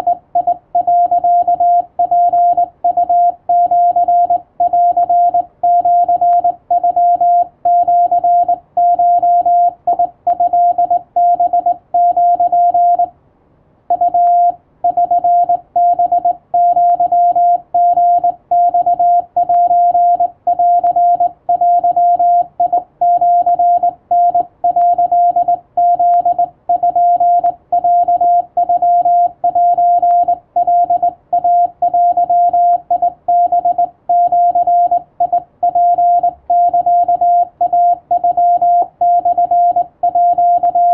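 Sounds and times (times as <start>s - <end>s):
morse code beeping: 0.0s - 13.1s, 13.9s - 40.9s.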